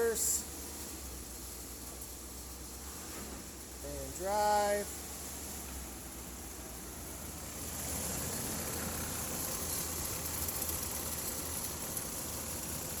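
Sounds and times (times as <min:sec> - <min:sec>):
pickup truck engine running: 0:00.5 - 0:13.0.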